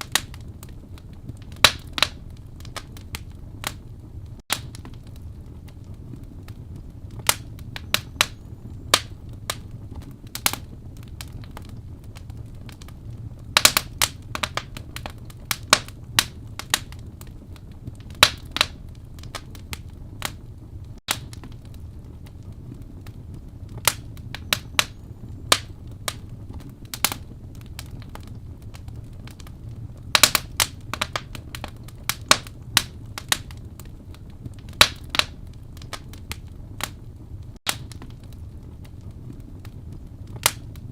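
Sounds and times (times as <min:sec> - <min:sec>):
low rush of flame: 0:00.0 - 0:40.9
wood fire crackling and popping: 0:00.0 - 0:40.9.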